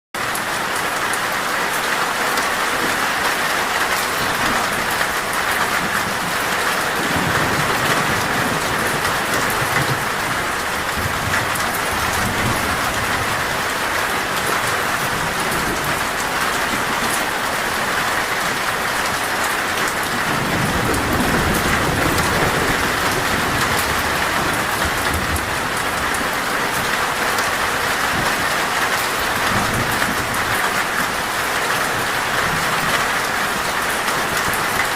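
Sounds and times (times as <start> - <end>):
heavy rain on a metal roof: 0.1 - 34.9
low thunder rumbling: 2.6 - 34.8.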